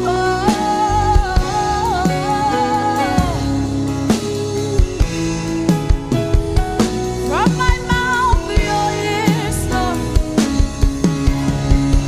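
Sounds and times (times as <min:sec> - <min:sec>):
drum kit kick drum beats: 0:00.0 - 0:12.0
keyboard notes: 0:00.0 - 0:12.0.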